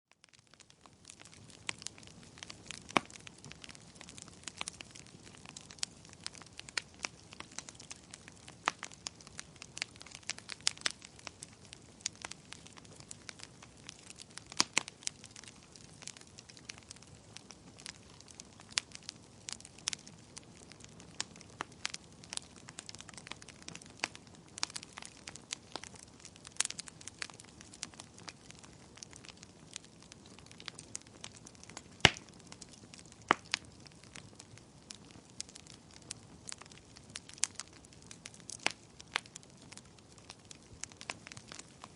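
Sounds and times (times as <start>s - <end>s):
wood fire crackling and popping: 0.1s - 41.9s.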